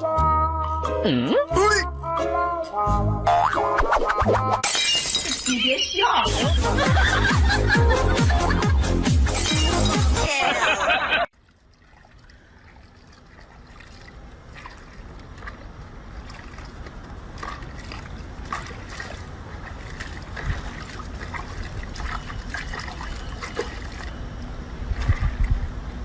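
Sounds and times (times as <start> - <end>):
water splashing and trickling: 4.9 - 25.9.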